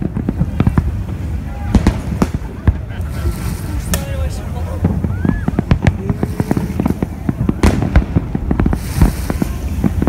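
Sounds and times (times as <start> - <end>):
firework crackles: 0.0 - 10.0
fireworks bursting: 0.0 - 10.0
hissing crackle: 0.0 - 10.0.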